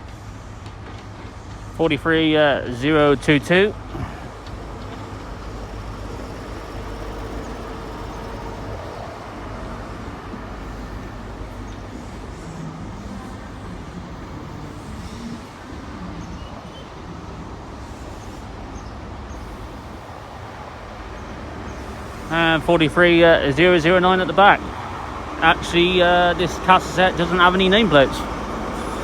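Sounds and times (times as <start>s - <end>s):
train low rumble: 0.0s - 29.0s.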